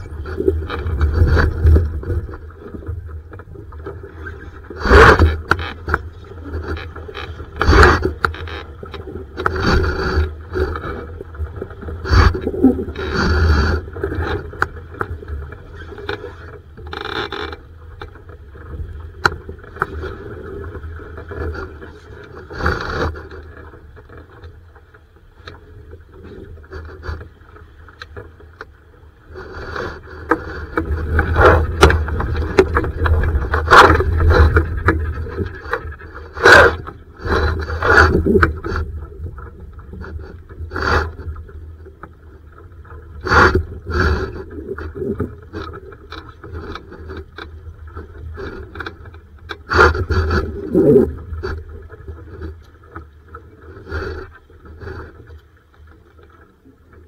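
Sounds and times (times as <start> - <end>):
continuous low rumble: 0.0 - 57.0.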